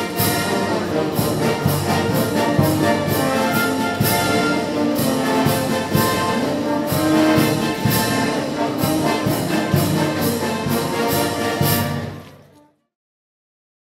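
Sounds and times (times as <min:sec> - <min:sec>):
brass band music: 0:00.0 - 0:12.8.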